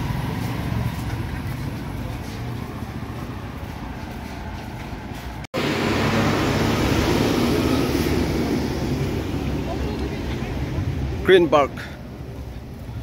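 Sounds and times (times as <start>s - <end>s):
passing vehicles and motorbikes: 0.0s - 13.0s
rough outdoor noise: 0.0s - 13.0s.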